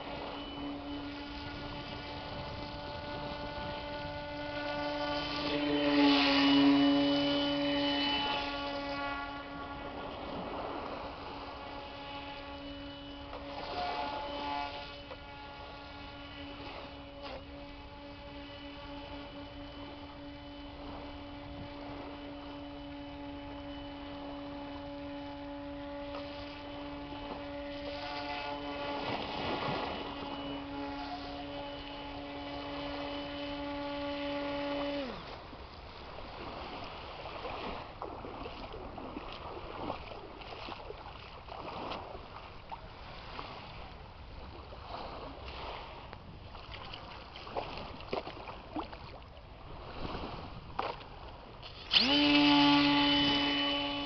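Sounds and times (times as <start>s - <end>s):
electric motor and propeller humming: 0.0s - 54.0s.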